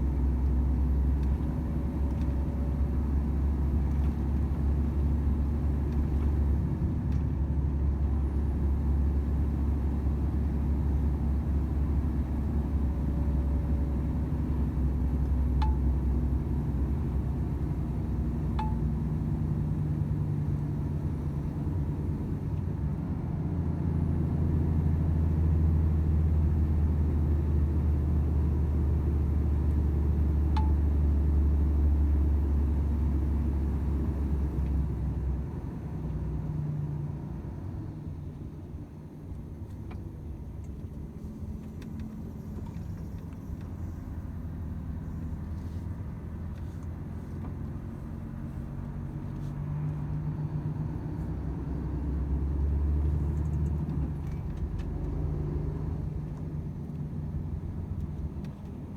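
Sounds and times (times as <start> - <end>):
truck diesel engine drone: 0.0 - 58.9.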